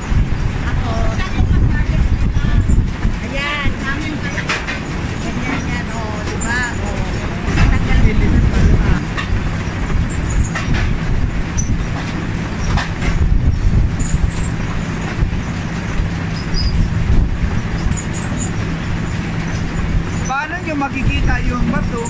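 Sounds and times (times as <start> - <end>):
harvester rumble and hum: 0.0 - 22.0.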